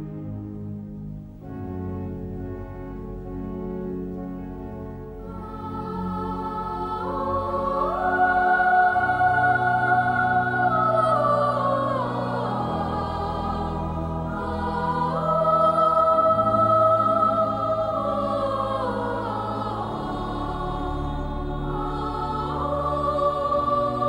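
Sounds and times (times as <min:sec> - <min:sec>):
choir singing long notes: 0:00.0 - 0:24.0.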